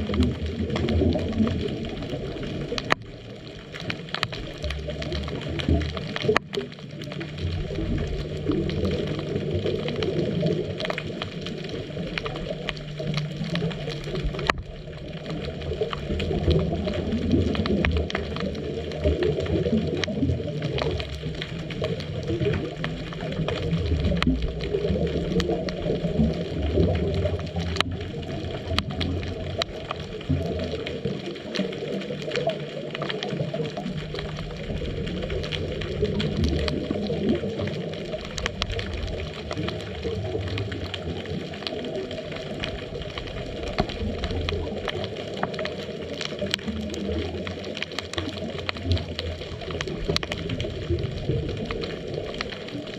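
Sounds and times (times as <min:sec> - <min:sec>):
scuba bubbles gurgling underwater: 0:00.0 - 0:52.9.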